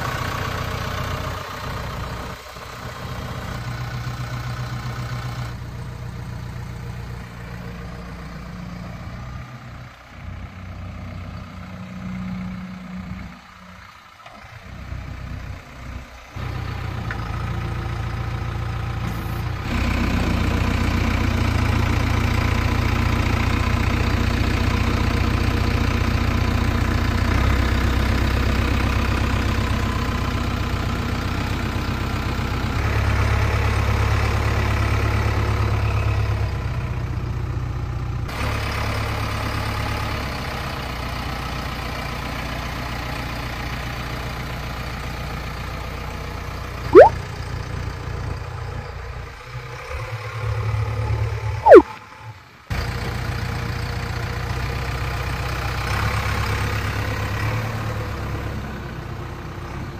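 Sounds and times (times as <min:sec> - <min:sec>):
diesel engine running: 0:00.0 - 0:51.6.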